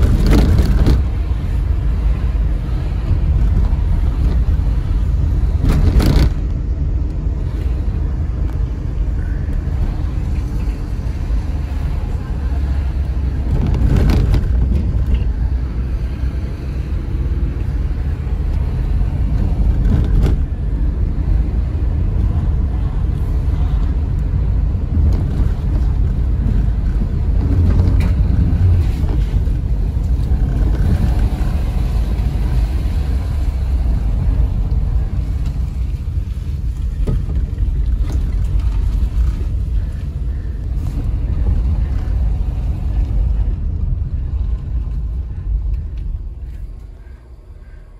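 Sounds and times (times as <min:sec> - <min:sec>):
engine and tyre rumble: 0:00.0 - 0:47.9.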